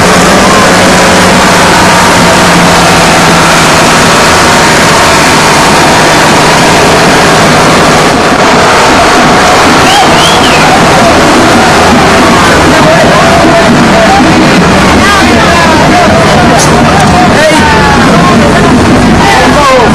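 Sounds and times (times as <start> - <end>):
low hum: 0.0 - 19.2
loud distorted parade noise: 0.0 - 19.9.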